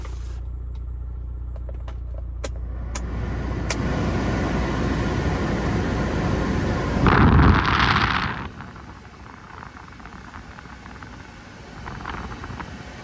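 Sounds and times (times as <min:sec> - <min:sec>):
car engine idling: 0:00.0 - 0:13.0
air conditioning blower: 0:02.6 - 0:13.0.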